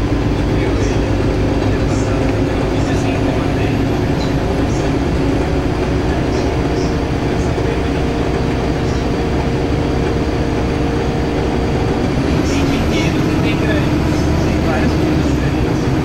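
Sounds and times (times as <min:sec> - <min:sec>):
bus engine drone: 0:00.0 - 0:16.0
road and tyre noise: 0:00.0 - 0:16.0.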